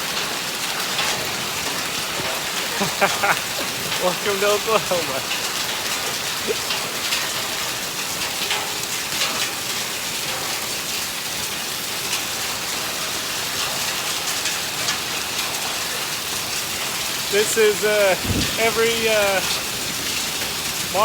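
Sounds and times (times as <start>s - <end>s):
hail and rain pelting down: 0.0s - 21.0s
hailstones ticking: 0.0s - 21.0s.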